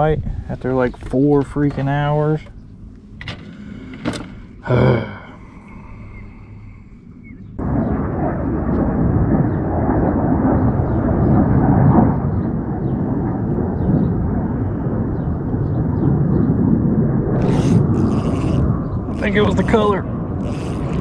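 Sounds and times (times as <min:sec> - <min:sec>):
wind buffeting microphone: 0:00.0 - 0:04.6, 0:05.4 - 0:21.0.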